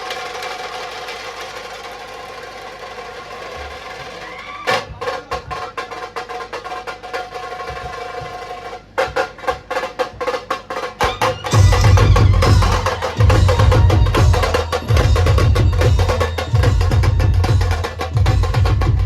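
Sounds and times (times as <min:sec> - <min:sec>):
sharp drum strokes: 0:00.0 - 0:19.0.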